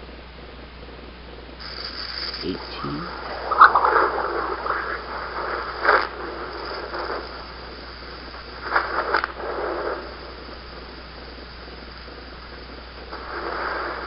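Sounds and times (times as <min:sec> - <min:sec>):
static-like hissing: 0:00.0 - 0:14.0
steady low hum: 0:00.0 - 0:14.0.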